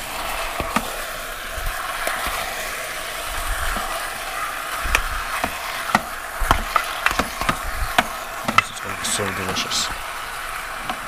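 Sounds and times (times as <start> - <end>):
meat sizzling in a pot: 0.0 - 11.0.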